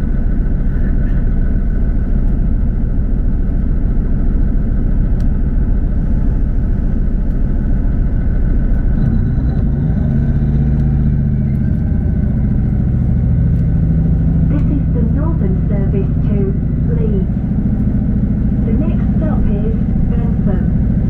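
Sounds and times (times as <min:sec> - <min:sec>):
low engine hum: 0:00.0 - 0:21.0
train rumbling: 0:00.0 - 0:21.0.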